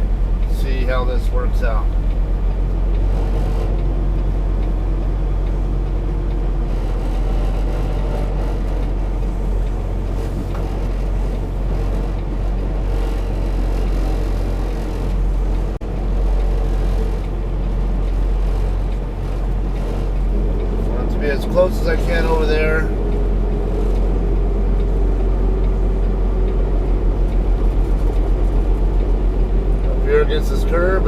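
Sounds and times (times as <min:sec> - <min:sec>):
truck diesel engine drone: 0:00.0 - 0:31.0.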